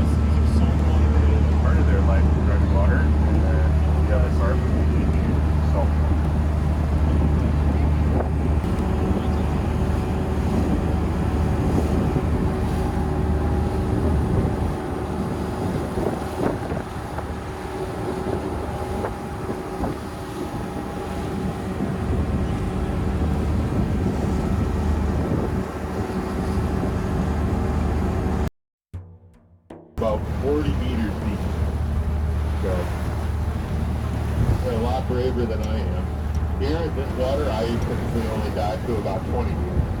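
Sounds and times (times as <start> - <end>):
steady engine hum: 0.0 - 28.5, 30.0 - 40.0
wind on microphone: 0.0 - 28.5, 30.0 - 40.0.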